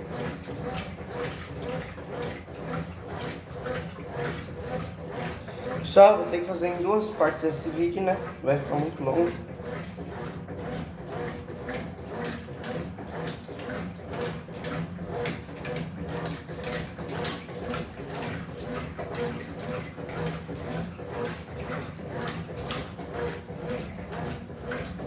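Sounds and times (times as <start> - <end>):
agitator swishing water: 0.0 - 25.0
washing machine motor humming: 0.0 - 25.0.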